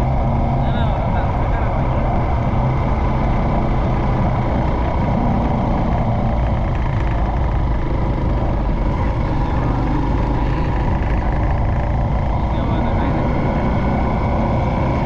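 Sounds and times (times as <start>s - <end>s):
motorcycle engine droning: 0.0s - 15.0s
noisy rush: 0.0s - 15.0s.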